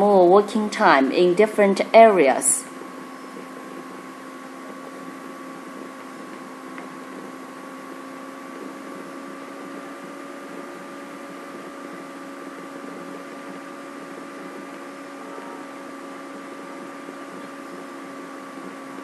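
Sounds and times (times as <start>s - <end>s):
steady tonal hum: 0.0s - 19.0s.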